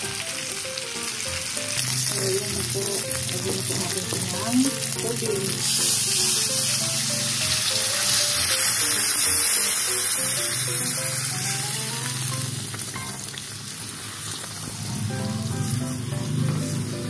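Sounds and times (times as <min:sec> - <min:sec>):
water sizzling in hot wok: 0:00.0 - 0:17.0.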